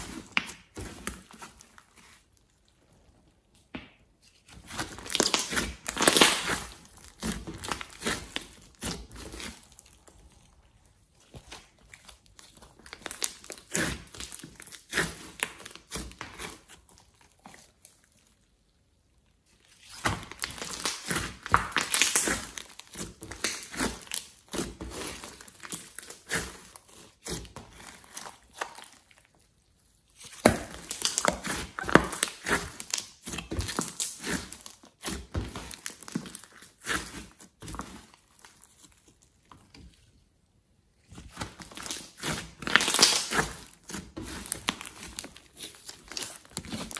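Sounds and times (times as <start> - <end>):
hands squishing sticky slime: 0.0 - 46.9.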